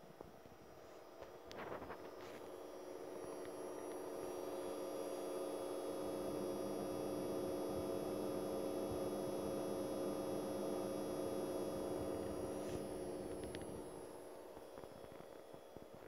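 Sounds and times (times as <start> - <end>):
high-pitched coil whine: 0.0 - 16.0
projector humming: 0.0 - 16.0.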